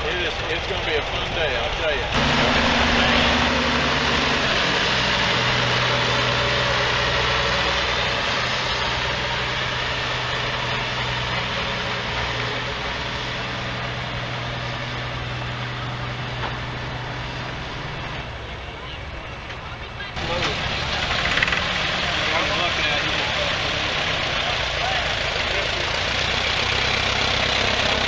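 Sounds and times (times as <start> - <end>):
tractor engines humming: 0.0 - 28.0.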